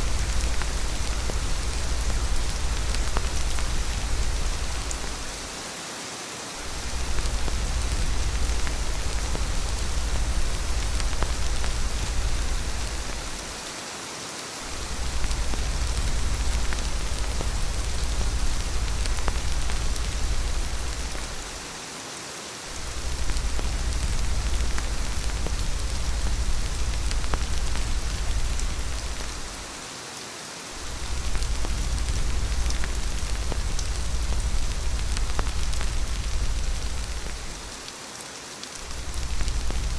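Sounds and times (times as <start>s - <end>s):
deep low rumble: 0.0s - 5.4s, 6.7s - 13.6s, 14.7s - 21.6s, 22.8s - 29.6s, 30.8s - 37.7s, 38.9s - 39.9s
heavy rain hiss: 0.0s - 39.9s.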